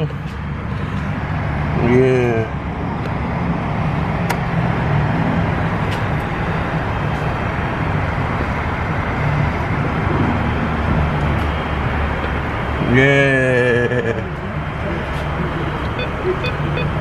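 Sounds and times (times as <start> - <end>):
low rumble of road vehicles: 0.0 - 17.0.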